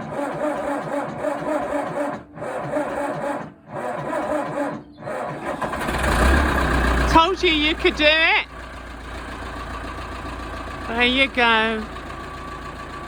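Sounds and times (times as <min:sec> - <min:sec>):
tractor engine cranking: 0:00.0 - 0:13.0.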